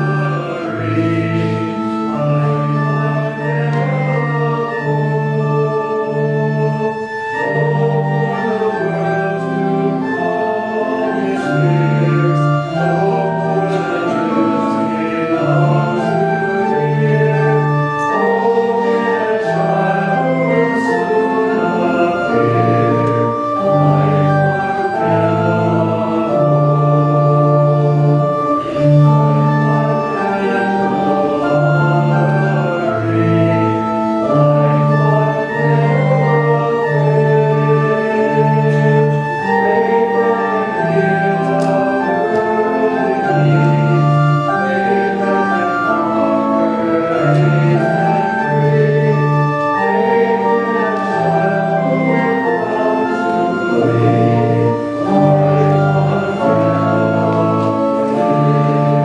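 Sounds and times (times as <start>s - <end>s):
church organ playing hymn: 0.0s - 59.0s.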